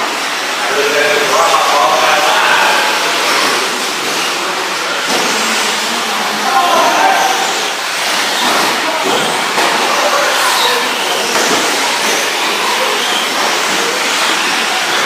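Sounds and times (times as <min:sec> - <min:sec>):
electric motors whining: 0:00.0 - 0:15.0
gear and tyre noise: 0:00.0 - 0:15.0.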